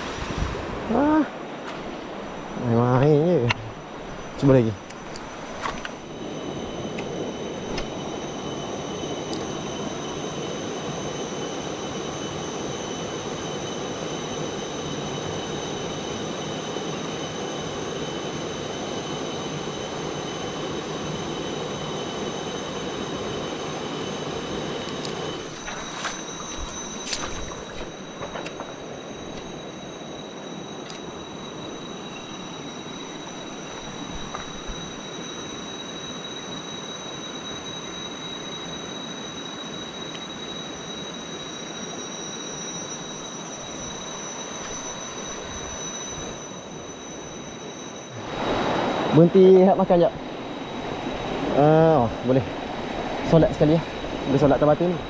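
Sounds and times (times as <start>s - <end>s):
insects whining: 0.0s - 55.0s.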